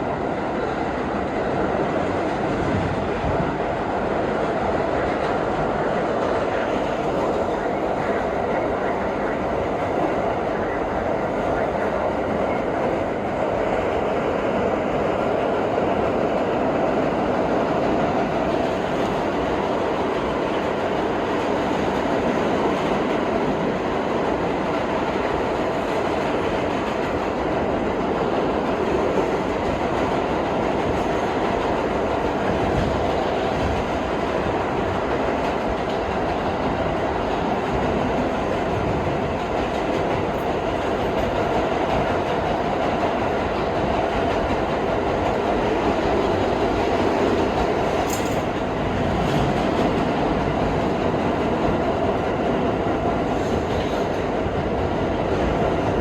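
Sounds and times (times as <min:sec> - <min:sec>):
subway car wheels rumbling: 0:00.0 - 0:56.0.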